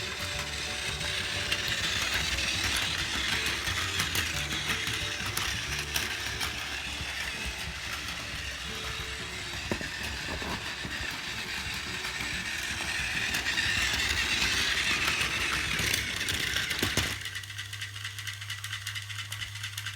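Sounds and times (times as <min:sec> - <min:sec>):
toy train clicking over rail joints: 0:00.0 - 0:19.9
toy train motor whirring: 0:00.0 - 0:19.9.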